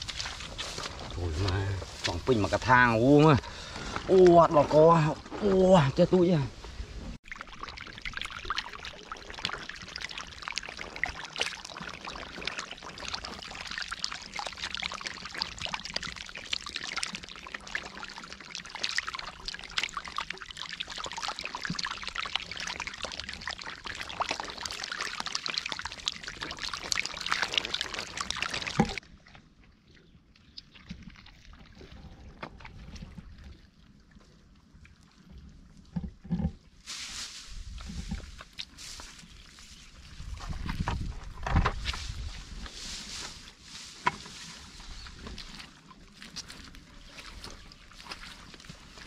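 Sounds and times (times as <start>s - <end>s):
muddy water splashing: 0.0s - 49.0s.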